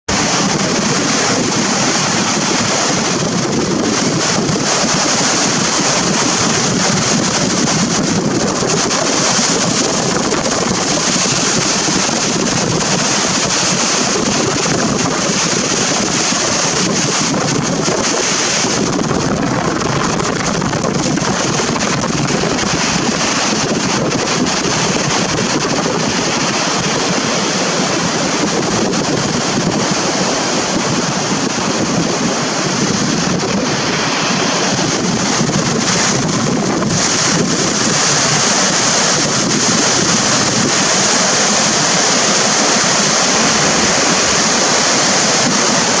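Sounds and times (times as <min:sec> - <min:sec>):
waterfall rushing: 0:00.1 - 0:46.0.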